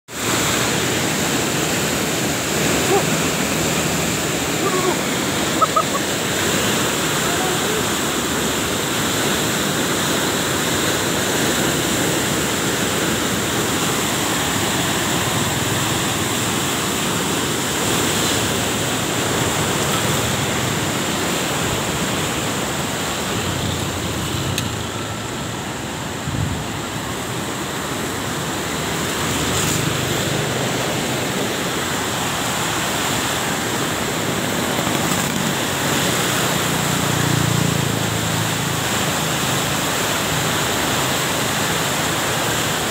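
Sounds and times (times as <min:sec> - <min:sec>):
river torrent rushing: 0:00.1 - 0:42.9.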